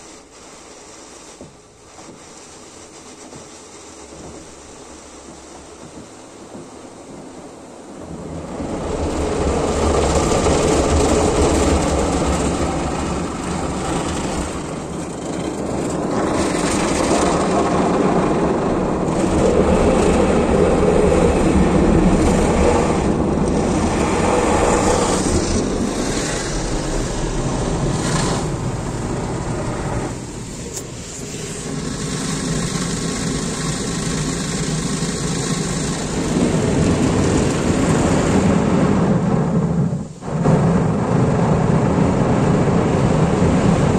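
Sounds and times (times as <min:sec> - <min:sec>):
rotating car wash brushes swishing: 0:00.0 - 0:38.8
water spray on car body: 0:00.0 - 0:39.1.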